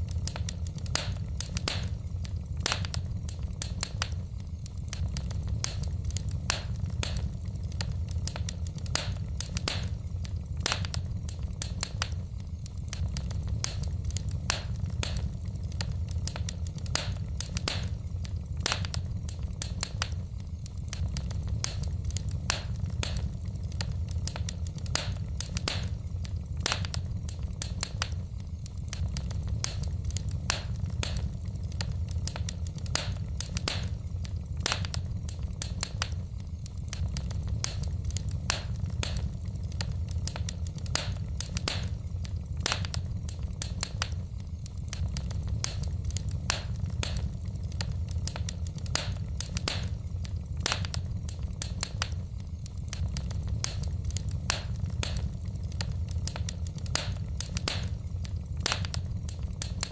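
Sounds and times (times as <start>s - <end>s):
low steady rumble: 0.0s - 59.9s
wood fire crackling: 0.0s - 59.9s.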